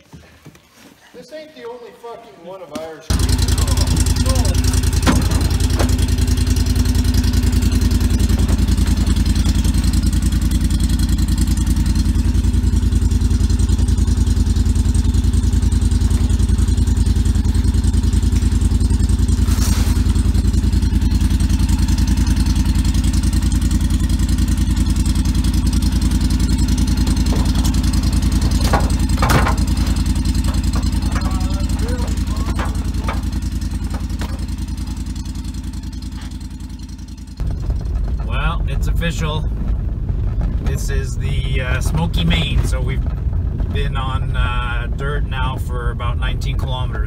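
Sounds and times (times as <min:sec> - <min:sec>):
vehicle engine droning: 0:03.1 - 0:47.0.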